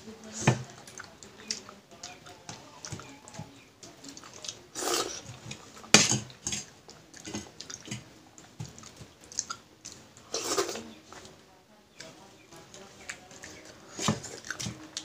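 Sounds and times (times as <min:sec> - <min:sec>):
chewing and mouth sounds: 0:00.8 - 0:11.4, 0:12.7 - 0:15.0.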